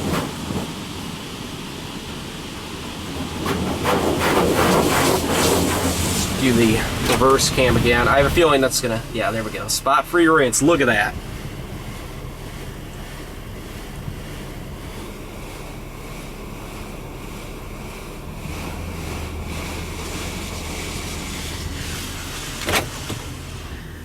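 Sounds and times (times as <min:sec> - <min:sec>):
low machine hum: 0:00.0 - 0:24.0
water spray hissing on van: 0:00.0 - 0:24.0.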